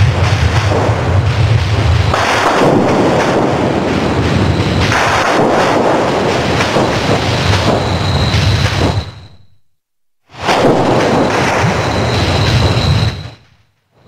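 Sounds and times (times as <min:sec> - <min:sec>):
rough thunder-like rumble: 0:00.0 - 0:09.6, 0:10.3 - 0:13.5.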